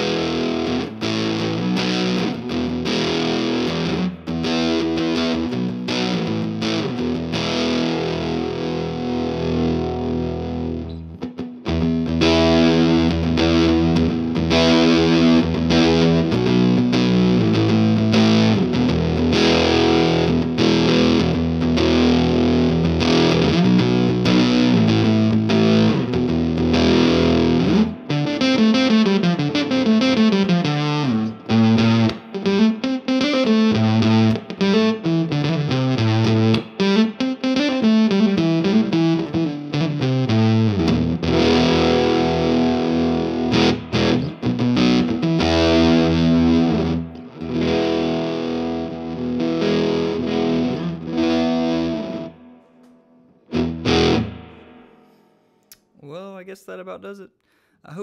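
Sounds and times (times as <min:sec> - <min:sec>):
overdriven electric guitar: 0:00.0 - 0:55.8.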